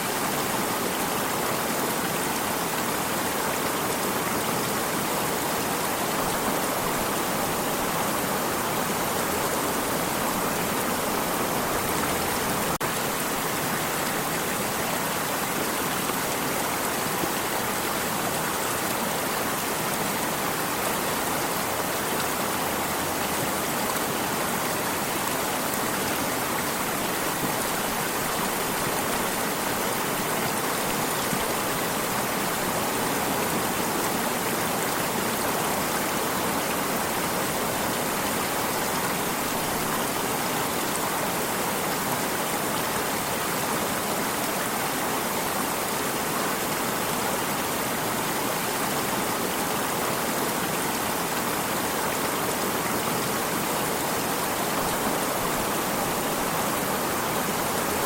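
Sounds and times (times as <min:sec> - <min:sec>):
water stream running: 0:00.0 - 0:58.0.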